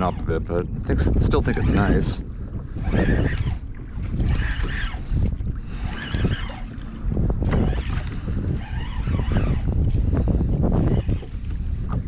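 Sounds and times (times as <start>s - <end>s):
water slapping against kayak hull: 0.0s - 12.0s
wind buffeting microphone: 0.0s - 12.0s.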